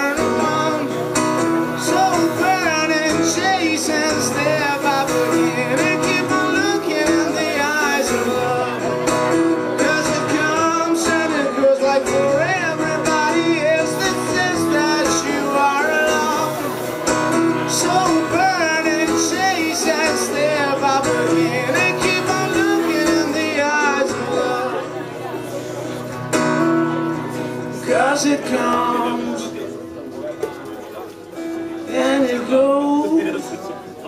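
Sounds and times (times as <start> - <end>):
man singing wordless melody: 0.0 - 25.3, 27.6 - 29.8, 31.7 - 33.8
acoustic guitar strumming: 0.0 - 34.0.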